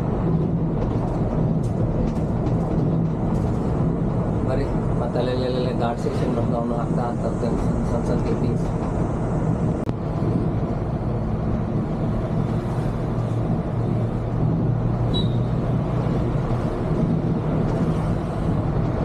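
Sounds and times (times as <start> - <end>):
coach engine and tyre drone: 0.0 - 19.0.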